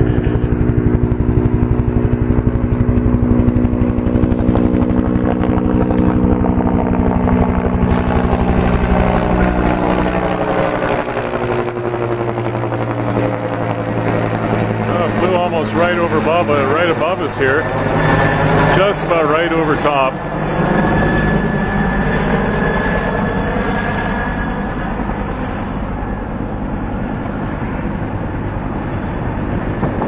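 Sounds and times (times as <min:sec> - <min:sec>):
helicopter engine drone: 0:00.0 - 0:30.0
helicopter rotor beat: 0:00.0 - 0:30.0.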